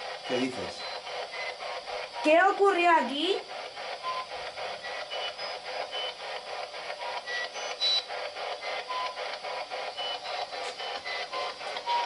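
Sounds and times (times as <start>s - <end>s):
radio scanner static chopping: 0.0s - 12.0s.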